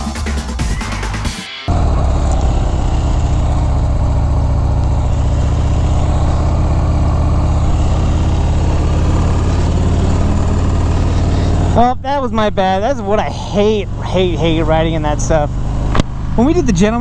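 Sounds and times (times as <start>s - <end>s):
motorcycle engine idling low: 1.7s - 17.0s.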